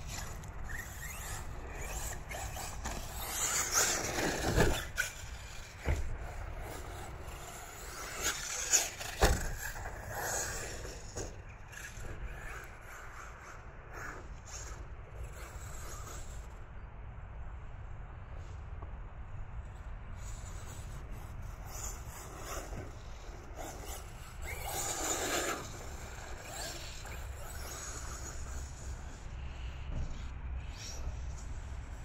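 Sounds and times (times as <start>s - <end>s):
rc car motor whining: 0.0s - 16.9s, 19.6s - 32.0s.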